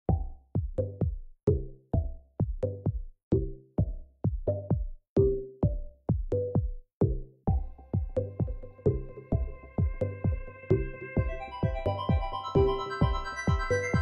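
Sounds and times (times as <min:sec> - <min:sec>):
electronic music with drum-machine beat: 0:00.1 - 0:14.0.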